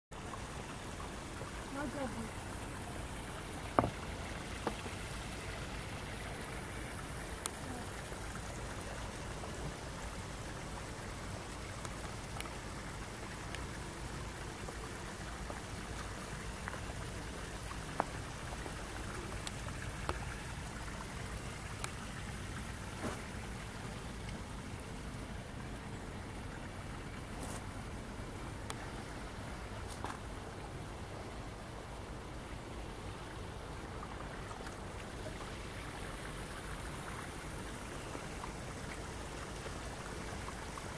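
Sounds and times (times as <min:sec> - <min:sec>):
water rushing at a weir: 0:00.2 - 0:40.9.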